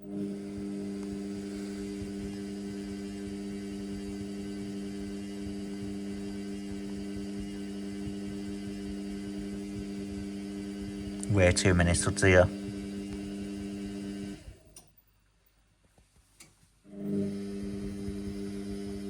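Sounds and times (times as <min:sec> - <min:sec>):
washing machine humming: 0:00.0 - 0:14.6, 0:16.9 - 0:19.0.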